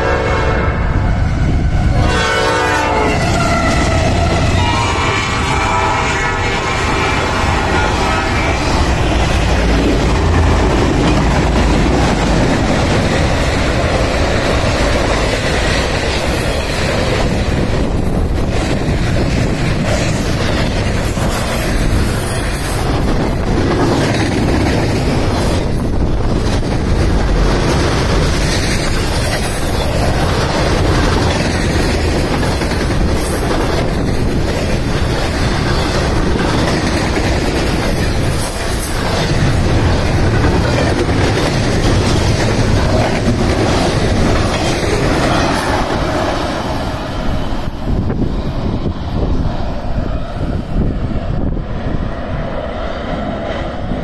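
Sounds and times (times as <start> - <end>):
train wheels clattering on track: 2.6 - 51.6.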